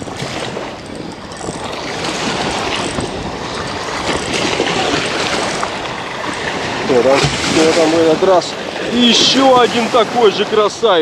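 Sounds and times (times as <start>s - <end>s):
waves splashing against concrete: 0.0s - 11.0s
wind buffeting microphone: 0.0s - 11.0s.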